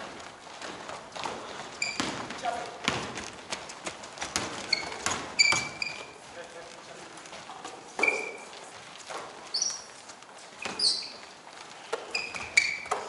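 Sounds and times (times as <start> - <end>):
shoes squeaking on court floor: 0.0 - 13.0.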